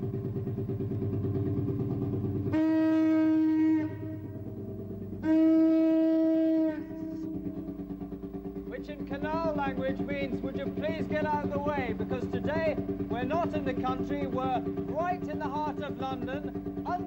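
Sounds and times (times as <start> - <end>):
diesel boat engine chugging: 0.0 - 17.0
boat horn blasts: 2.4 - 17.0.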